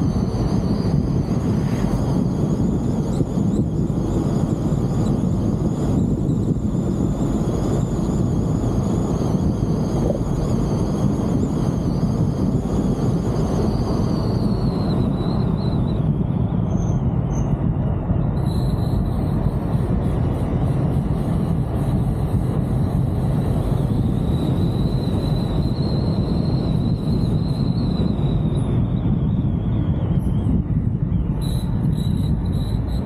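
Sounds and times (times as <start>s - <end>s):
faint high whine: 0.0s - 17.6s, 18.2s - 33.0s
wind and road noise: 0.0s - 33.0s.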